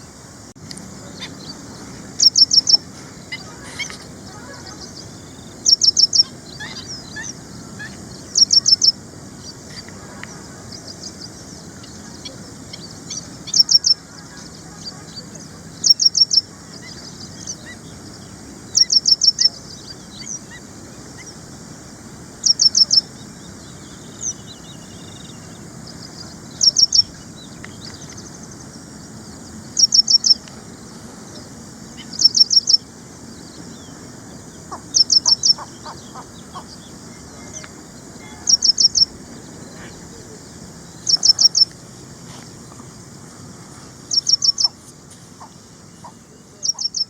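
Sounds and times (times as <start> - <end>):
steady background hiss: 0.0 - 47.0.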